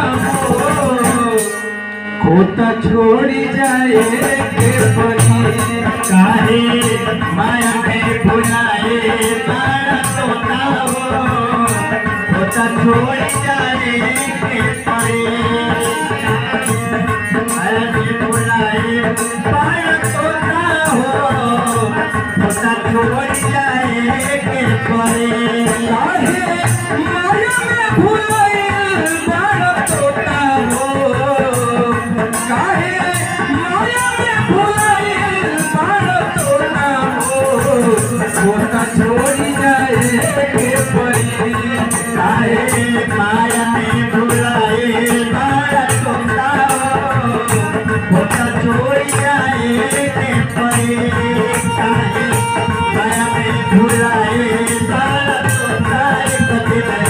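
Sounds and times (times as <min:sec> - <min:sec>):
rattling percussion: 0:00.0 - 0:01.9, 0:02.5 - 0:57.0
dholak drum beat: 0:00.0 - 0:57.0
harmonium melody: 0:00.0 - 0:57.0.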